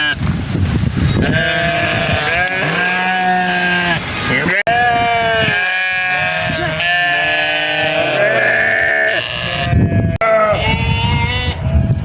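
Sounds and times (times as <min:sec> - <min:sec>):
sheep bleating: 0:01.1 - 0:11.8.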